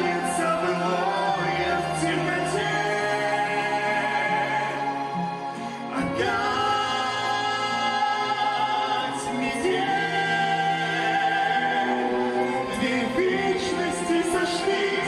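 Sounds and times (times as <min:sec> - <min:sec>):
vocal duet singing: 0:00.0 - 0:15.0.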